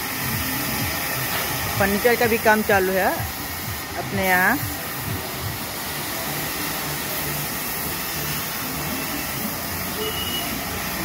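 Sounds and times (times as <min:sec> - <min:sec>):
spray gun hissing: 0:00.0 - 0:11.0.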